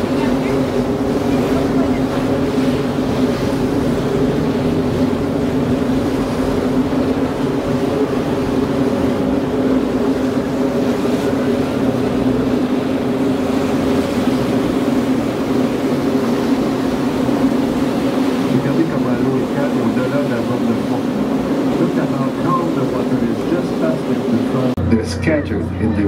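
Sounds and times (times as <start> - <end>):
boat engine humming: 0.0 - 26.0
wind and water rushing: 0.0 - 26.0.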